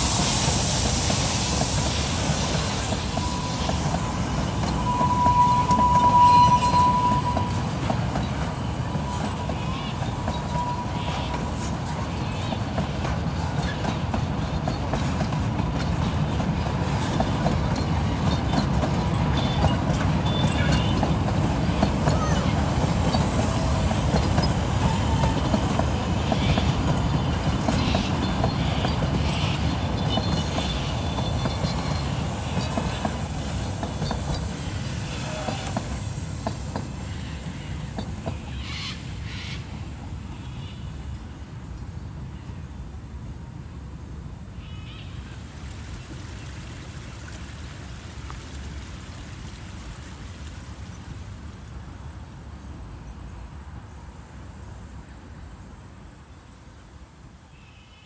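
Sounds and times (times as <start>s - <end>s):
insects chirring: 0.0s - 58.0s
steam train rumble and rail clatter: 0.0s - 58.0s.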